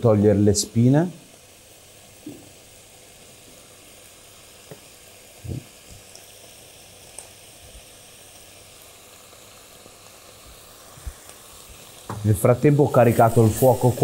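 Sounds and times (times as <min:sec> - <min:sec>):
fish sizzling in a pot: 0:00.0 - 0:14.0.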